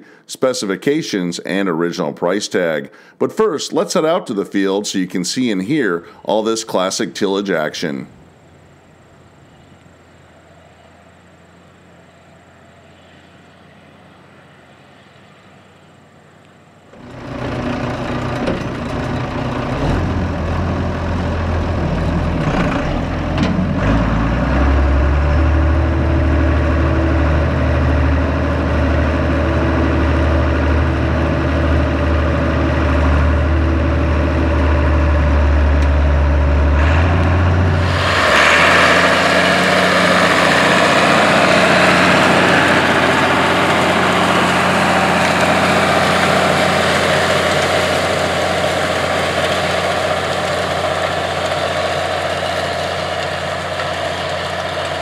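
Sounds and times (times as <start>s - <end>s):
tractor diesel engine under load: 5.4s - 55.0s.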